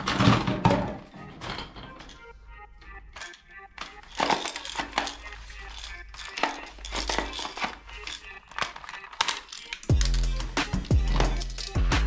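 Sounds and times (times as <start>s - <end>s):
plastic toy guns clattering: 0.0s - 2.2s, 3.1s - 11.9s.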